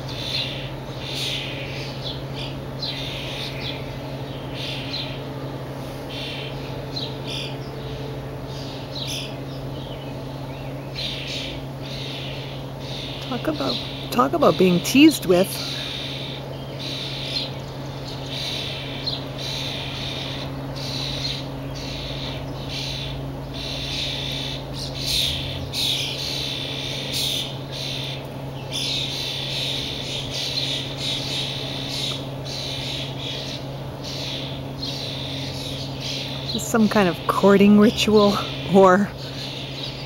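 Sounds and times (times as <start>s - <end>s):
starlings squawking harshly: 0.0s - 5.3s, 6.0s - 7.6s, 8.5s - 40.0s.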